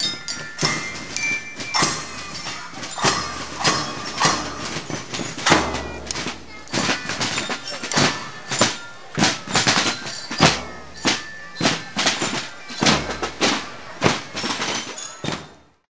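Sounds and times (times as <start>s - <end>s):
marching drums beating: 0.0s - 15.5s.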